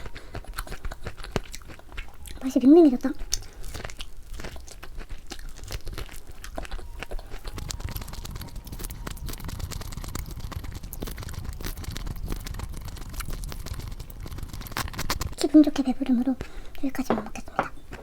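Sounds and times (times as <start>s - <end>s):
crunching fried chicken: 0.0s - 16.2s.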